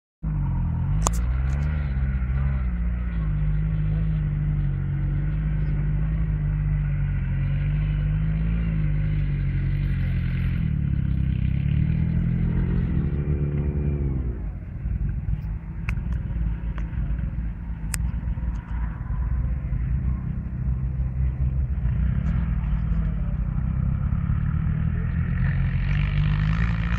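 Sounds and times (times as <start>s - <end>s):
car engine revving: 0.2s - 26.9s.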